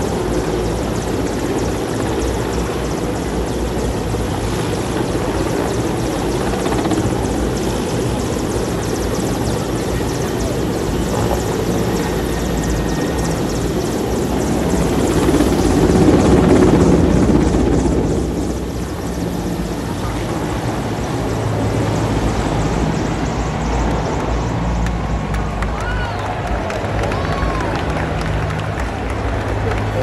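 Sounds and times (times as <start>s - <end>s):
helicopter rotors beating: 0.0s - 30.0s.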